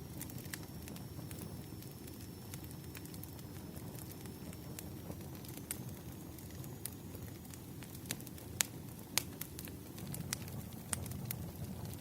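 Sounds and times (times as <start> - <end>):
firewood crackling: 0.0 - 12.0
low rumble of fire: 0.0 - 12.0
sharp pops of fire: 0.0 - 12.0.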